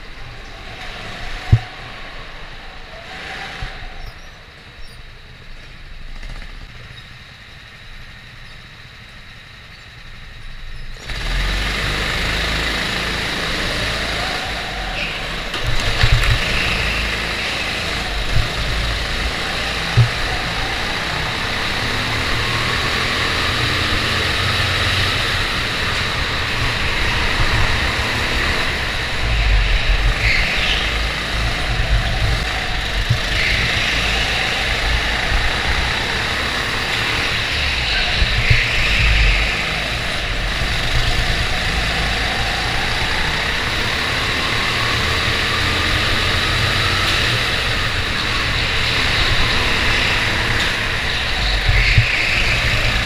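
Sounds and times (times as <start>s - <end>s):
go-kart engines racing: 0.0s - 53.0s.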